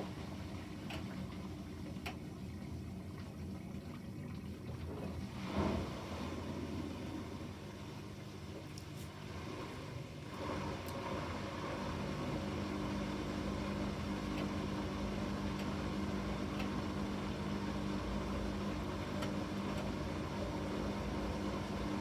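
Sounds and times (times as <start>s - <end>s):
washing machine humming: 0.0s - 22.0s.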